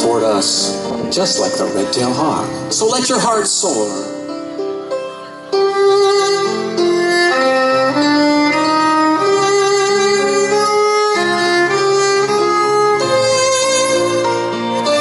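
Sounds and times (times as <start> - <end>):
violin slow melody: 0.0 - 15.0.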